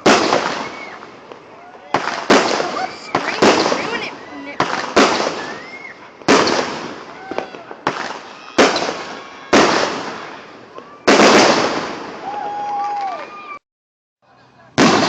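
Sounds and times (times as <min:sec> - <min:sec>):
fireworks bangs with rumble: 0:00.0 - 0:12.8, 0:14.8 - 0:15.0.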